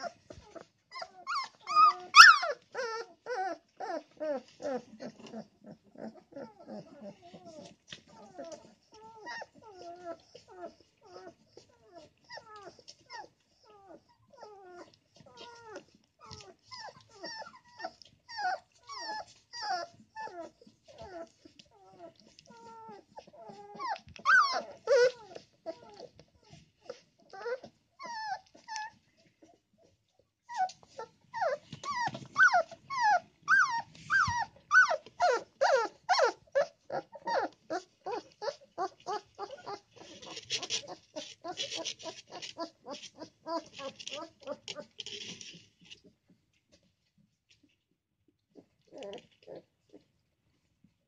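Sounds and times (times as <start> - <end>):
puppy whining: 0.0 - 50.8.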